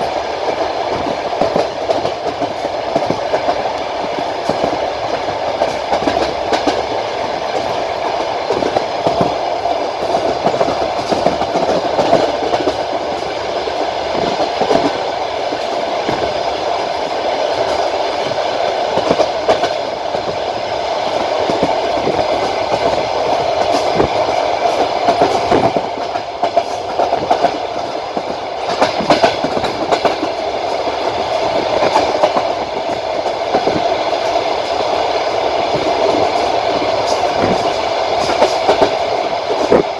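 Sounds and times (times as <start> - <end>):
train running rumble: 0.0 - 39.9
train wheels clicking over rail joints: 0.0 - 39.9.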